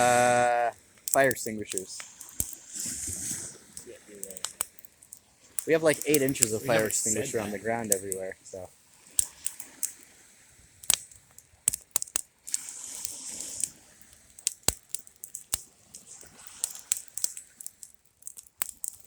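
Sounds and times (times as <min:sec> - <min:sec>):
sharp snaps: 0:00.0 - 0:10.1, 0:10.8 - 0:19.0
burning plastic crackling and popping: 0:00.0 - 0:19.0
hissing: 0:00.0 - 0:19.0.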